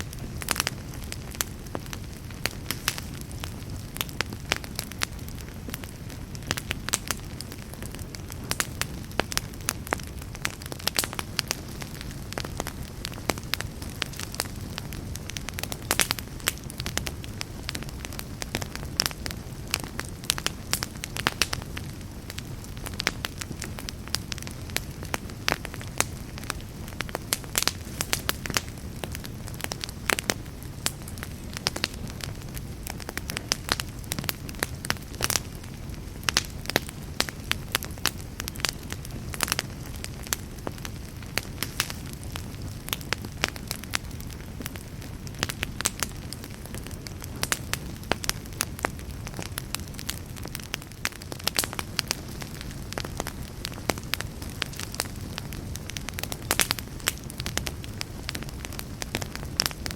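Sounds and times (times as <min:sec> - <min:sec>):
fire low rumble and hiss: 0:00.0 - 0:59.9
wood fire crackling and popping: 0:00.0 - 0:59.9.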